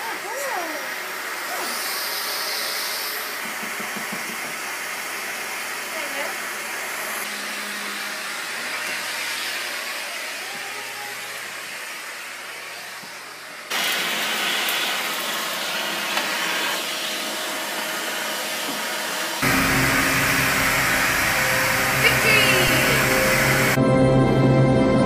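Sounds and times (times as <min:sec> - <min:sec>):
vacuum cleaner running: 0:00.0 - 0:24.5.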